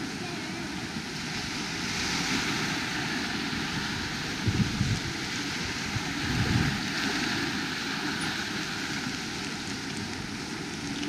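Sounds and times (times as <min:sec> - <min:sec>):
wind buffeting microphone: 0:00.9 - 0:11.0.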